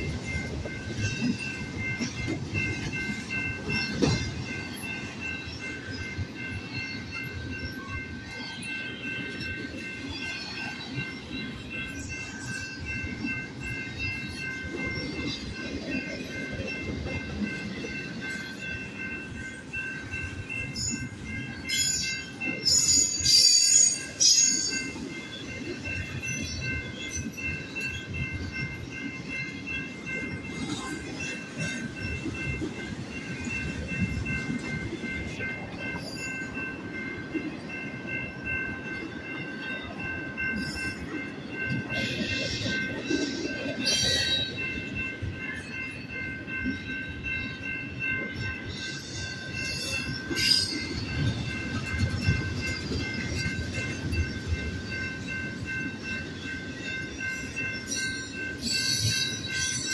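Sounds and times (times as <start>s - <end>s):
crossing bell ringing: 0.0s - 59.9s
freight train wheels rumbling: 0.0s - 59.9s.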